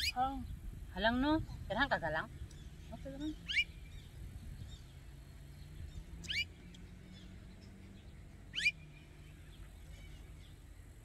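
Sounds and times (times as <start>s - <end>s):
bird calling: 0.0s - 0.5s, 2.2s - 11.0s.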